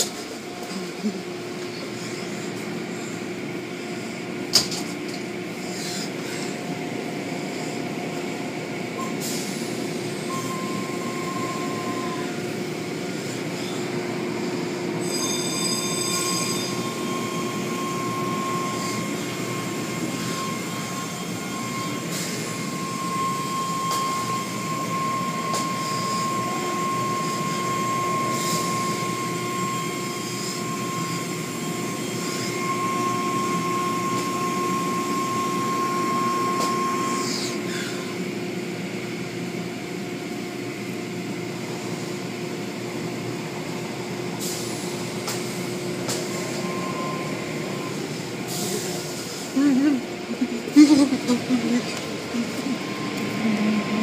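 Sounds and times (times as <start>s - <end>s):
machine hum with motor whine: 0.0s - 54.0s.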